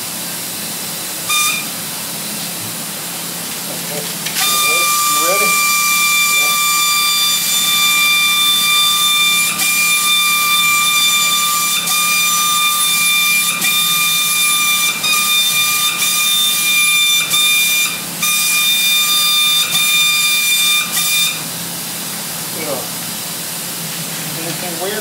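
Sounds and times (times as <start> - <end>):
paint spray gun whine and hiss: 0.0 - 25.0.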